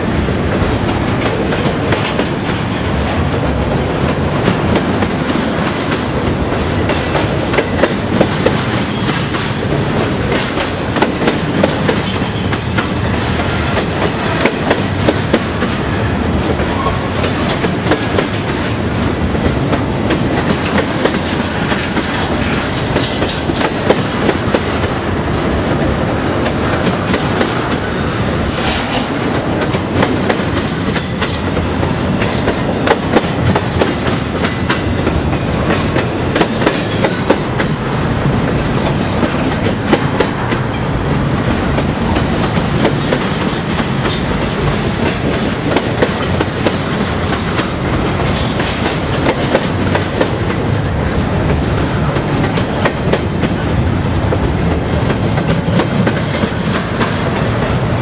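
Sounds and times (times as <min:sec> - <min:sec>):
freight train cars rolling: 0:00.0 - 0:58.0.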